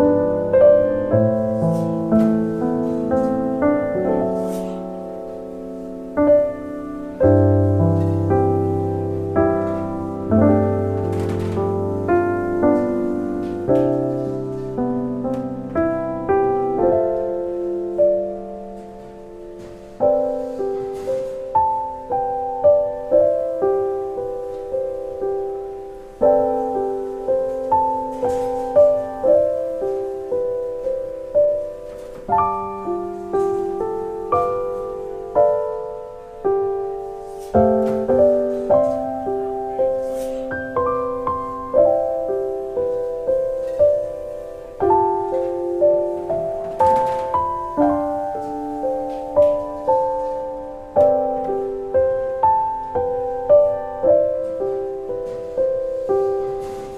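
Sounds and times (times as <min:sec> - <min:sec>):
slow solo piano music: 0:00.0 - 0:56.9.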